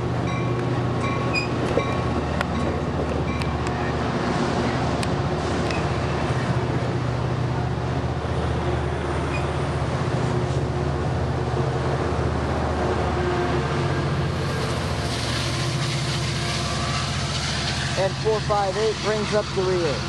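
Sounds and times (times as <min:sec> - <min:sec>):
diesel locomotive drone: 0:00.0 - 0:20.0
passing train hiss: 0:00.0 - 0:20.0
train coaches rolling past: 0:00.0 - 0:20.0.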